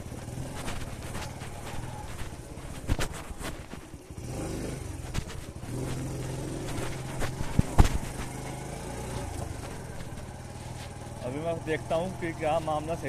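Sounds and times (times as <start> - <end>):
muffled motorcycle engine: 0.0 - 13.0.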